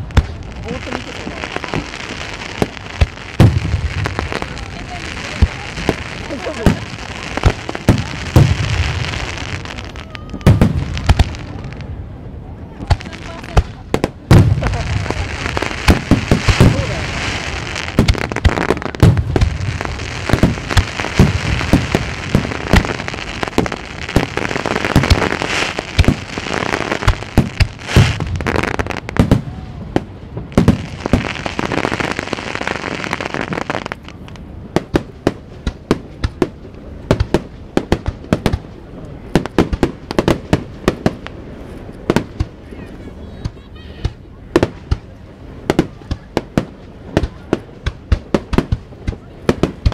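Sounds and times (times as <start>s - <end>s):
firework bangs: 0.0s - 12.1s, 12.7s - 42.8s, 43.4s - 49.9s
firework crackle: 0.0s - 49.9s.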